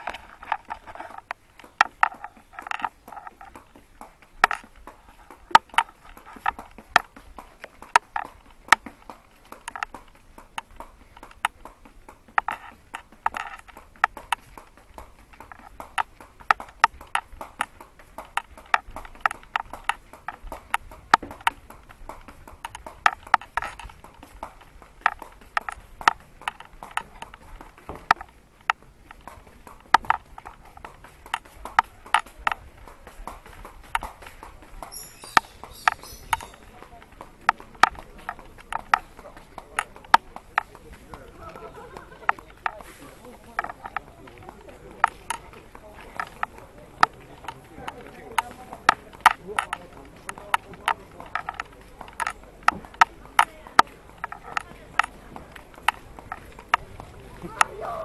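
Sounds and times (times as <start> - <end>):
footsteps on wooden boardwalk: 0.0 - 58.0.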